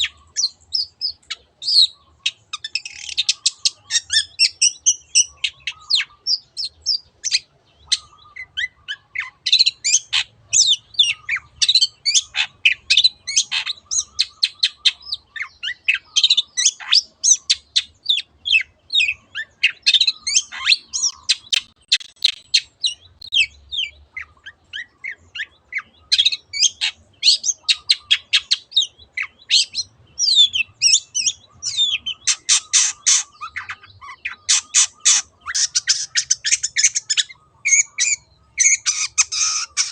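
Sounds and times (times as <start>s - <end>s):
bird chattering and whistling: 0.0s - 39.9s.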